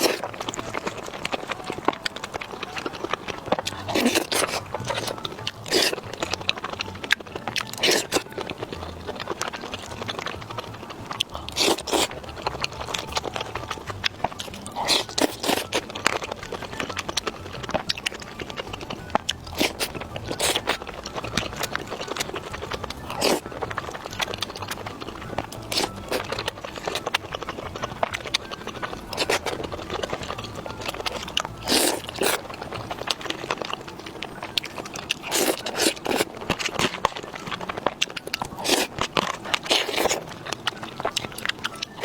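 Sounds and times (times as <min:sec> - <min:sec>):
person chewing crunchy food: 0:00.0 - 0:42.0.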